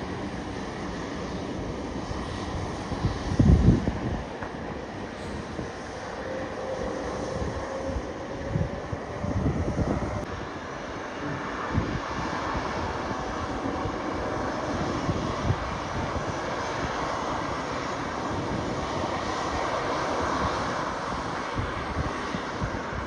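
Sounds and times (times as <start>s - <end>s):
airliner engine roar: 0.0s - 23.0s.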